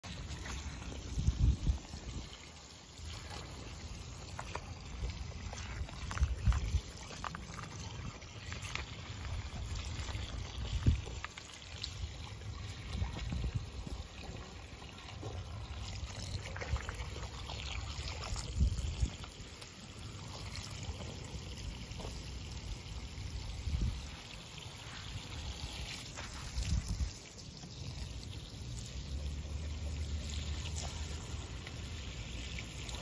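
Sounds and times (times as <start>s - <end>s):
puppies lapping water: 0.0s - 33.0s
water trickling from hose: 0.0s - 33.0s.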